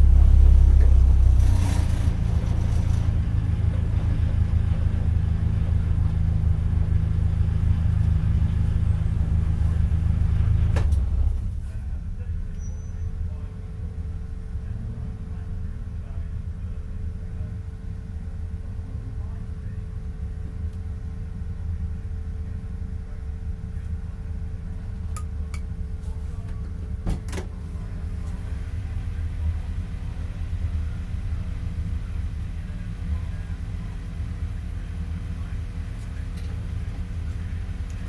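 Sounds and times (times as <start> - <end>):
race car engine idling: 0.0 - 38.0.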